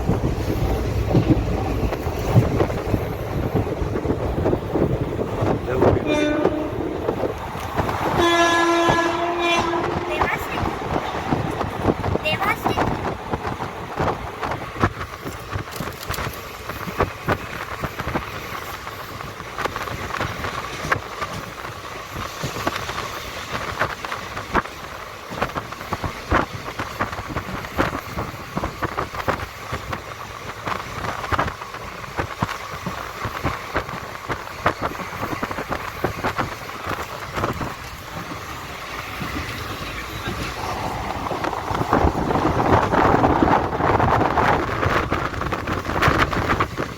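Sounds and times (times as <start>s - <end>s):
train rumble: 0.0s - 46.9s
train wheels clicking: 0.0s - 46.9s.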